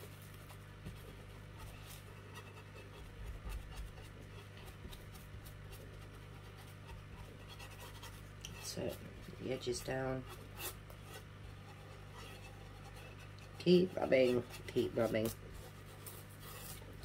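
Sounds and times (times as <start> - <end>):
brush scratching on cling film: 0.0 - 17.0
low steady hum: 0.0 - 17.0.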